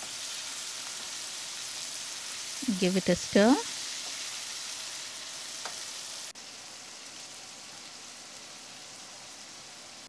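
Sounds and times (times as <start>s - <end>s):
meat frying in a pan: 0.0s - 10.0s.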